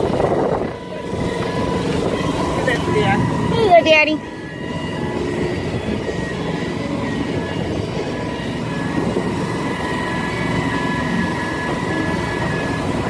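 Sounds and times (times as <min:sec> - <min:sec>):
motorboat engine rumbling: 0:00.0 - 0:13.0
thin steady whine: 0:00.0 - 0:13.0.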